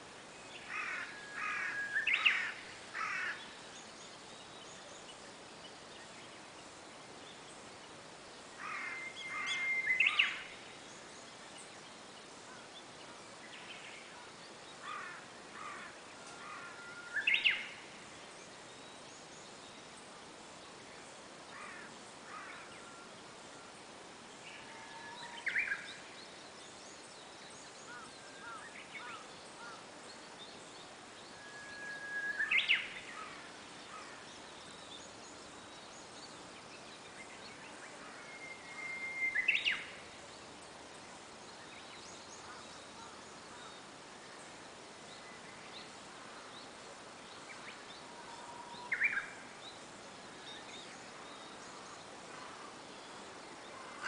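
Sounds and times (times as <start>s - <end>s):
background hiss: 0.0s - 54.0s
bird singing: 0.3s - 7.6s, 8.4s - 20.0s, 20.6s - 40.7s, 41.4s - 54.0s.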